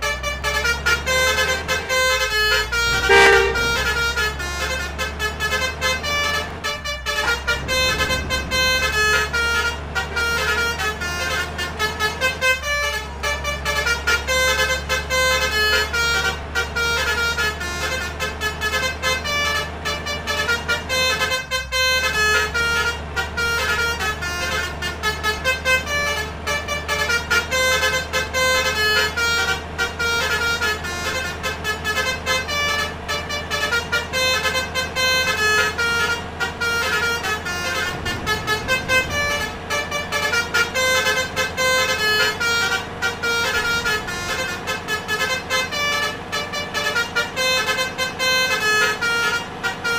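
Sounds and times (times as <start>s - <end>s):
bus engines droning: 0.0s - 49.9s
multi-tone bus horns: 0.0s - 49.9s.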